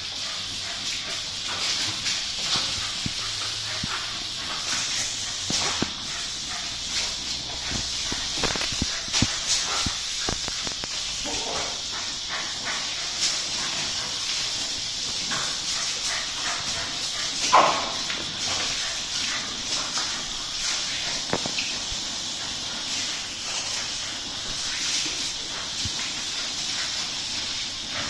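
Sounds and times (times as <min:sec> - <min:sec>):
garden hose spraying water: 0:00.0 - 0:28.0.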